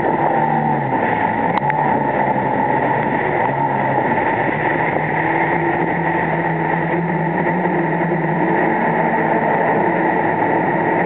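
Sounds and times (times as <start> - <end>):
churning water rushing: 0.0 - 11.0
jet ski engine running: 0.0 - 11.0.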